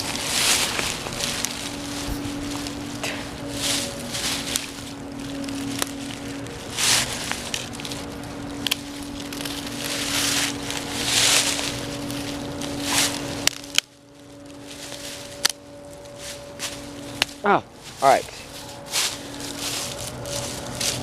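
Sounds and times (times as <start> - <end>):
dry leaves and sticks crunching: 0.0 - 21.0
low hum: 0.0 - 21.0.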